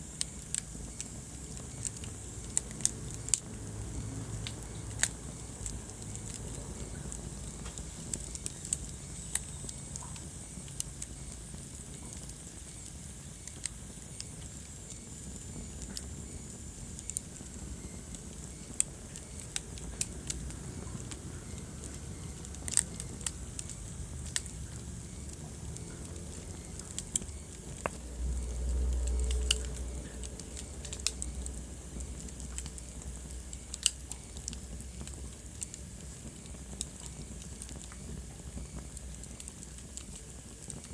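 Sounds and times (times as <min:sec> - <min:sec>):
sharp pops of fire: 0:00.0 - 0:40.9
wood fire crackling: 0:00.0 - 0:40.9.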